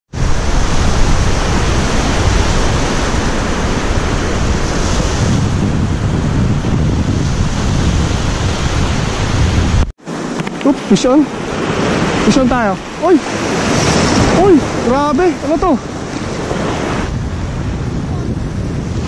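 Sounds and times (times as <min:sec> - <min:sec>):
wind buffeting microphone: 0:00.1 - 0:19.0.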